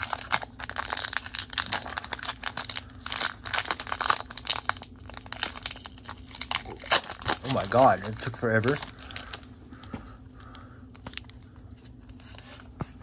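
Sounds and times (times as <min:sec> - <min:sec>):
foil wrapper crinkling: 0:00.0 - 0:09.5, 0:10.9 - 0:12.3.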